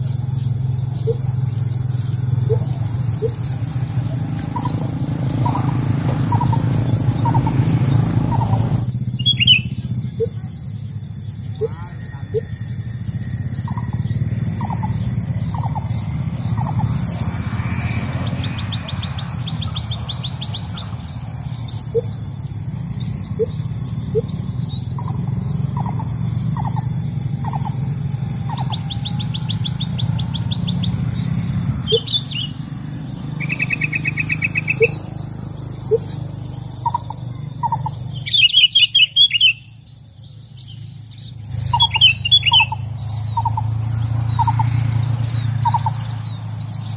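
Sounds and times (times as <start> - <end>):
high insect buzz: 0.0 - 46.9
songbirds chirping and trilling: 0.0 - 46.9.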